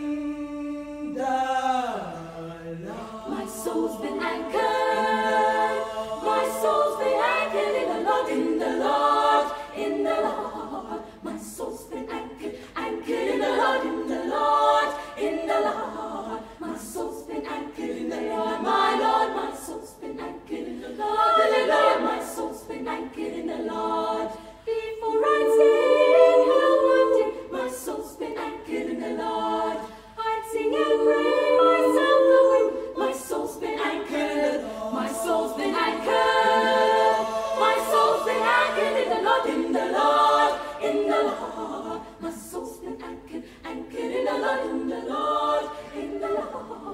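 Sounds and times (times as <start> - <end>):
girls' choir singing a cappella: 0.0 - 46.9.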